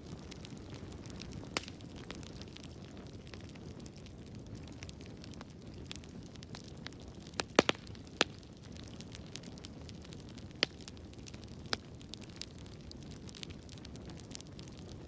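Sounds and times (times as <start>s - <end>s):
loud sharp pops of fire: 0.0s - 15.0s
wood fire crackling: 0.0s - 15.0s.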